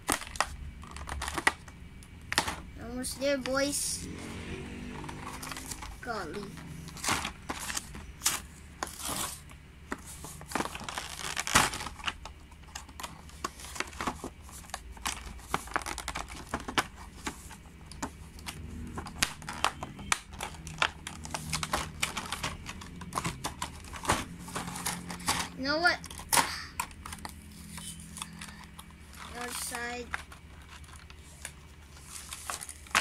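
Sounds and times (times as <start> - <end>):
plastic packaging crackling: 0.0 - 3.6, 4.9 - 33.0.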